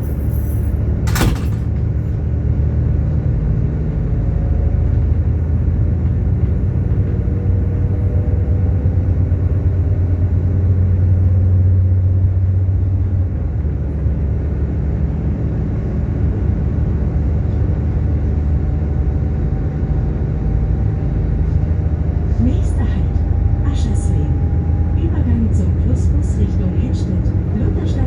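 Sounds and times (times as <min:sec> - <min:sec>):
train engine rumbling: 0:00.0 - 0:28.0.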